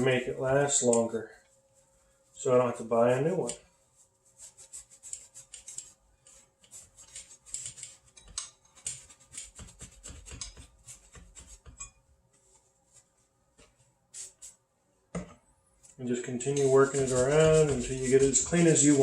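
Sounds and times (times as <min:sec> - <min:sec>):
cloth rag wiping: 0:00.0 - 0:08.1, 0:08.8 - 0:11.8, 0:12.4 - 0:14.7, 0:16.4 - 0:19.0.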